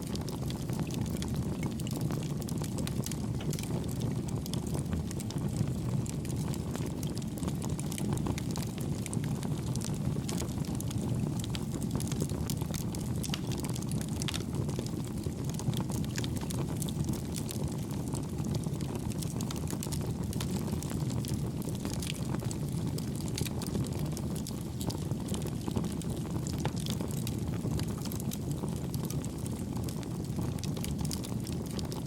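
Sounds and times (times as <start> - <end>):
fire crackling: 0.0 - 32.0
rumble of fire flames: 0.0 - 32.0.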